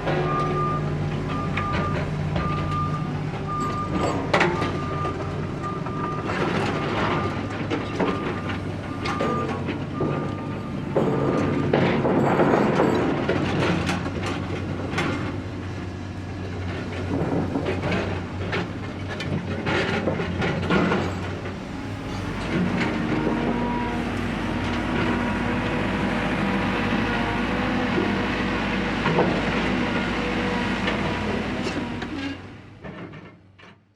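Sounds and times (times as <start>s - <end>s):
engine running: 0.0s - 32.1s
continuous rumble: 0.9s - 33.3s.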